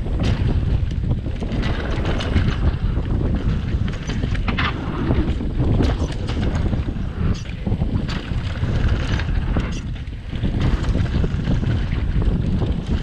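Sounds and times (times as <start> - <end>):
bike rattling over bumps: 0.0 - 13.0
bike rolling rumble: 0.0 - 13.0
wind buffeting microphone: 0.0 - 13.0.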